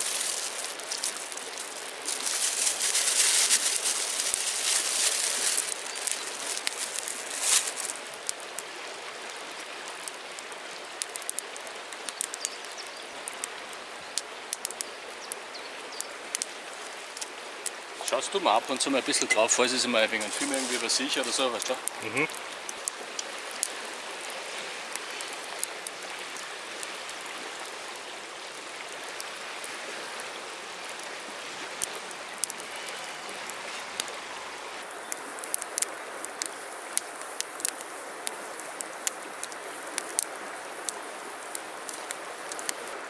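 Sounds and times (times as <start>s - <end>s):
campfire crackling and popping: 0.0s - 43.0s
river flowing over gravel: 0.0s - 43.0s.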